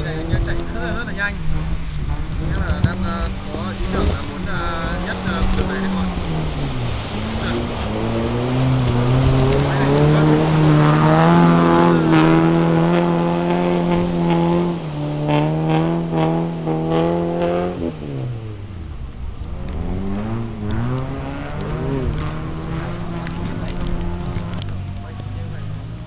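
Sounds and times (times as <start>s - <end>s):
racing car engine revving: 0.0s - 26.0s.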